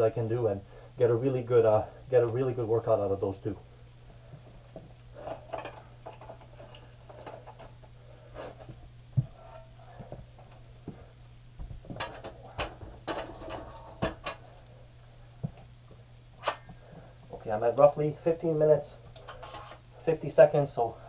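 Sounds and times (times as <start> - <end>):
low hum: 0.0 - 20.1.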